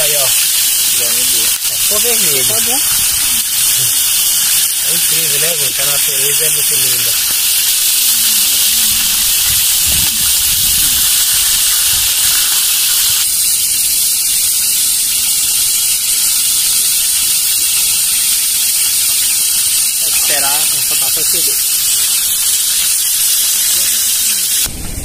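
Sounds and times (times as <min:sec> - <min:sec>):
shrimp sizzling in hot oil: 0:00.0 - 0:24.7.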